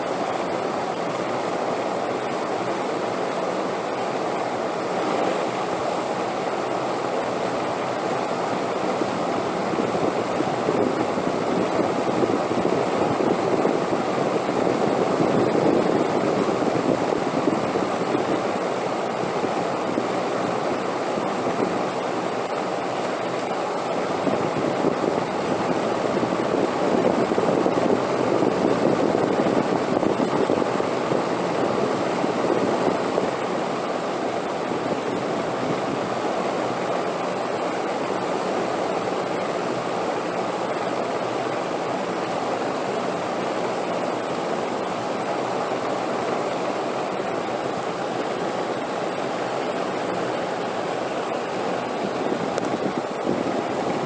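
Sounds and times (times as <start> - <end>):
rushing wind: 0.0 - 54.0.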